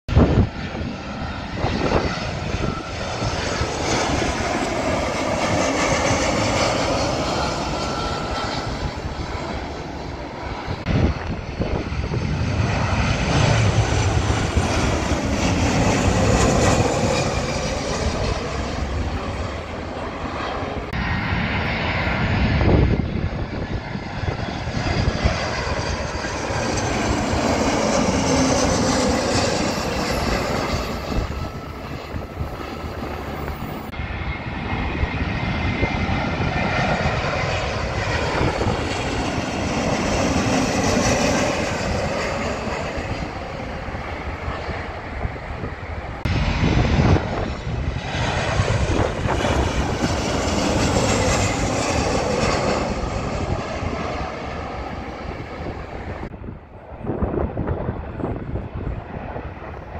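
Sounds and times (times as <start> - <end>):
jet airliners passing overhead: 0.1 - 59.9.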